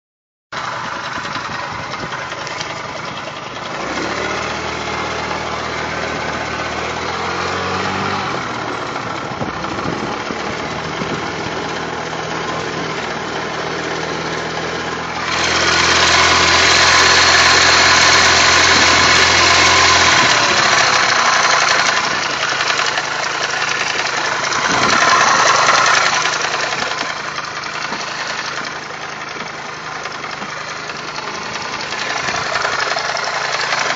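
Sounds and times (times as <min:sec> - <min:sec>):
knocking motorcycle engine: 0:00.6 - 0:07.4, 0:08.3 - 0:33.9.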